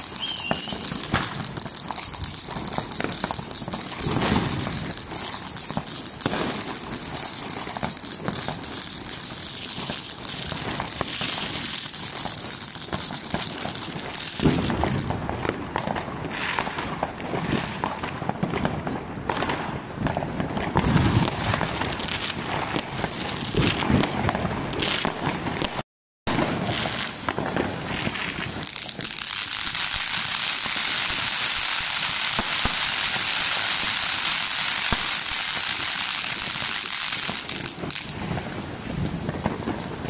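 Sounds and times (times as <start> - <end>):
firework fountain hissing and crackling: 0.0 - 40.0
firework pops and bangs: 0.0 - 40.0.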